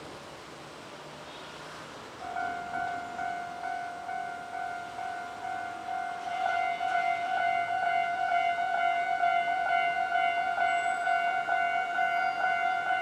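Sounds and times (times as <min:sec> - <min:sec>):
level-crossing warning bell: 0:02.2 - 0:13.0.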